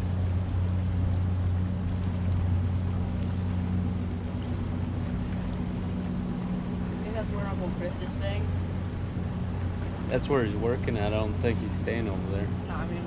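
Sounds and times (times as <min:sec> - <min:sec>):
boat engine droning: 0:00.0 - 0:13.0
wind: 0:00.0 - 0:13.0.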